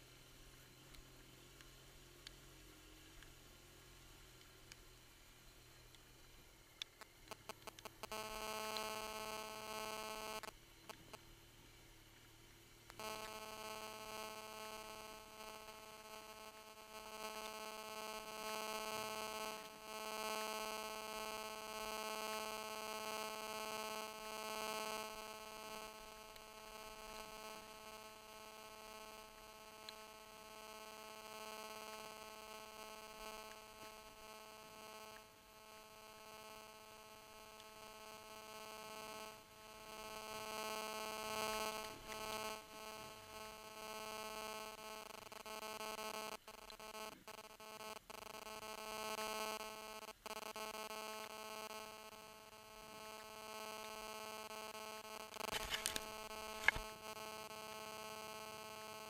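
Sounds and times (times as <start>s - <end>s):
steady electrical buzz: 0.0s - 59.0s.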